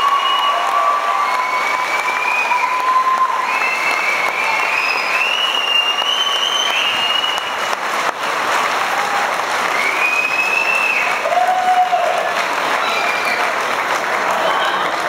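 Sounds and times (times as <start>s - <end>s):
high-pitched cheers: 0.0s - 7.8s, 8.5s - 15.0s
audience applauding: 0.0s - 15.0s.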